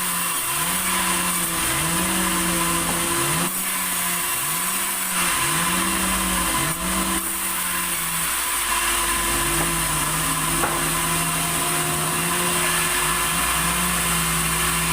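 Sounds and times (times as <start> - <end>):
motor hum: 0.0 - 14.9
saw cutting wood: 0.0 - 14.9.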